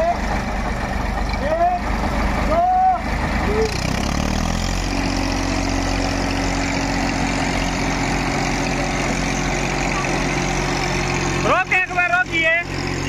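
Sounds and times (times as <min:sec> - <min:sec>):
diesel tractor engine revving: 0:00.0 - 0:13.0.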